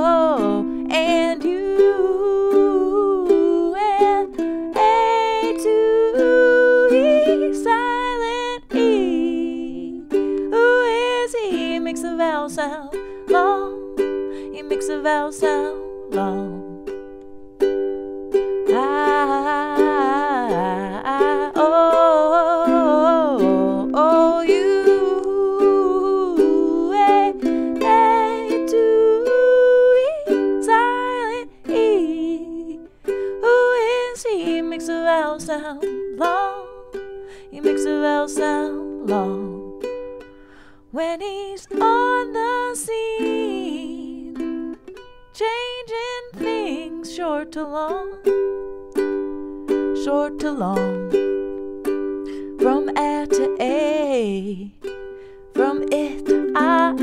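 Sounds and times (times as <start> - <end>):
woman singing: 0.0 - 17.0, 18.3 - 57.0
strummed ukulele: 0.0 - 57.0.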